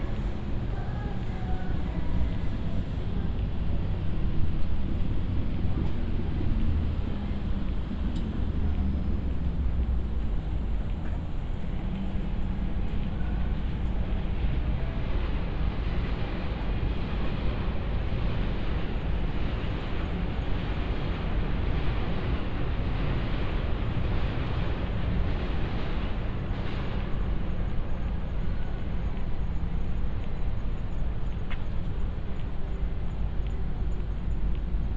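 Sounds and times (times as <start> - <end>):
city ambience rumble and hiss: 0.0 - 34.9.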